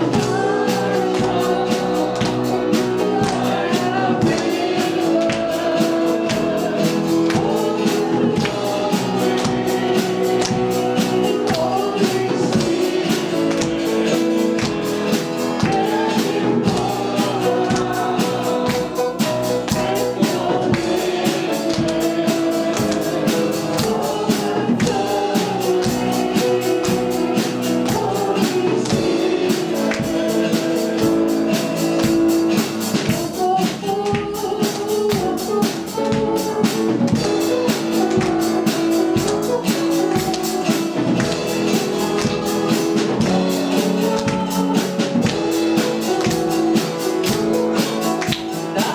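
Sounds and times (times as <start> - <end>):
worship band singing: 0.0 - 48.9.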